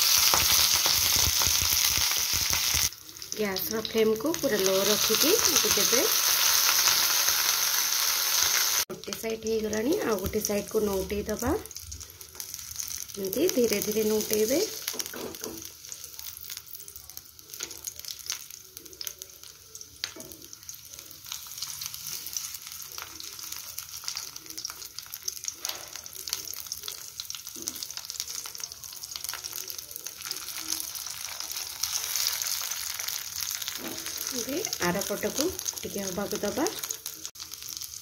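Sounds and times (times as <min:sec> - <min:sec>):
food sizzling and crackling in oil: 0:00.0 - 0:38.0.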